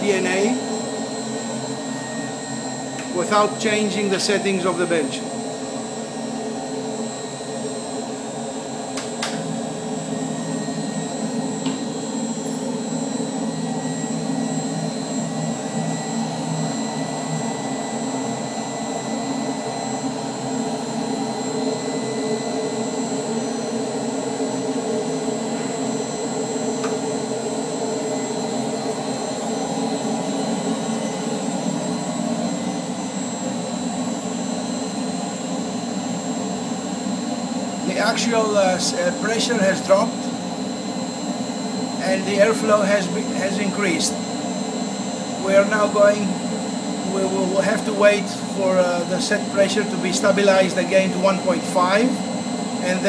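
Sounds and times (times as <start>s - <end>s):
blower whirring: 0.0s - 53.0s.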